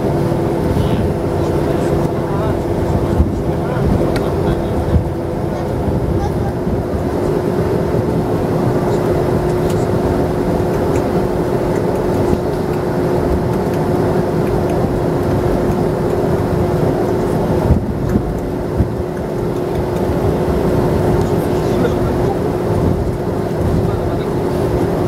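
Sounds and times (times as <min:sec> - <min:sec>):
jet engine rumble with whine: 0:00.0 - 0:25.0.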